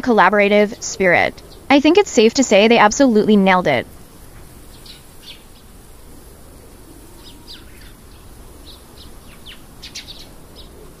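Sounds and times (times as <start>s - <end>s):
steady background hiss: 0.0s - 11.0s
small birds chirping: 0.2s - 11.0s.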